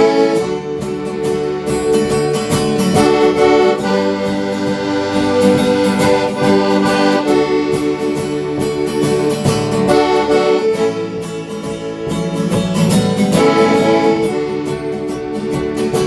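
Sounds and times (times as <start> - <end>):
country band instrumental: 0.0 - 16.0.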